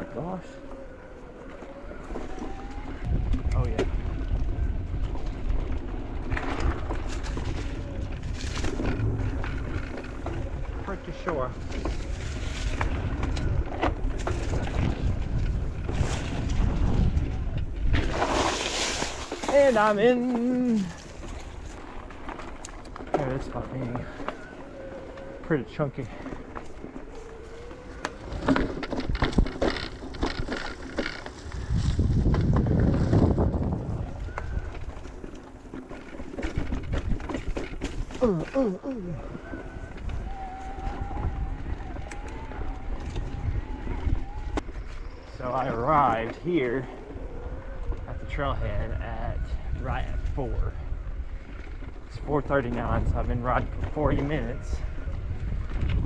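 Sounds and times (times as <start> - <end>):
wind and tyre rumble: 0.0 - 56.0
bike rattles and knocks: 0.2 - 46.4.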